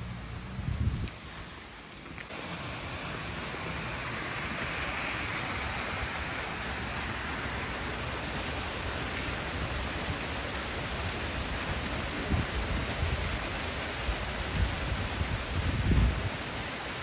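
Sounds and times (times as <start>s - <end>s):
flowing stream water: 0.0s - 17.0s.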